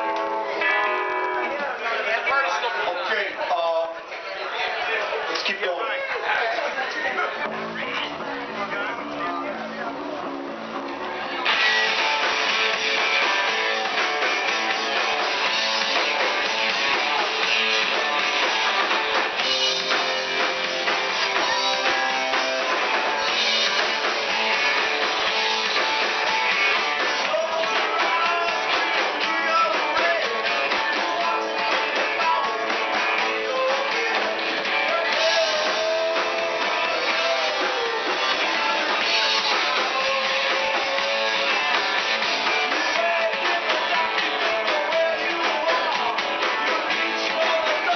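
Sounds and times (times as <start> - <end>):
live rock band playing: 0.0 - 3.1, 6.8 - 47.9.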